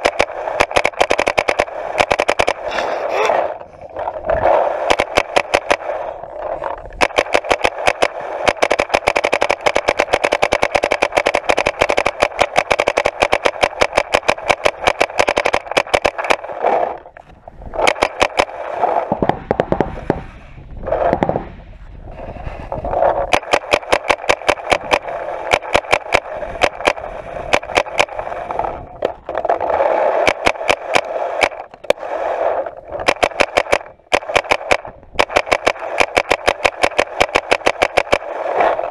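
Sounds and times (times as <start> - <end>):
paintball markers firing rapidly: 0.0 - 21.4, 22.5 - 38.9.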